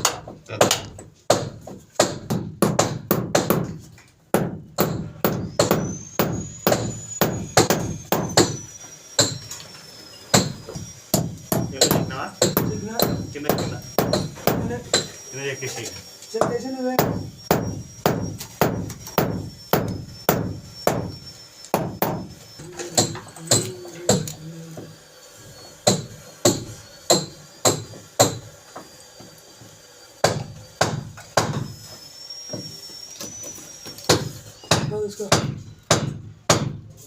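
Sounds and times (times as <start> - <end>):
hammer blows: 0.0 - 37.0.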